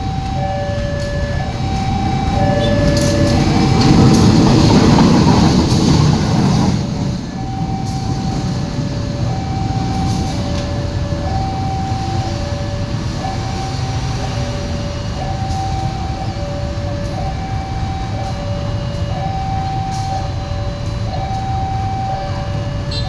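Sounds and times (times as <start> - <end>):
level-crossing alarm two tones: 0.0 - 23.0
train rumbling past: 0.0 - 23.0.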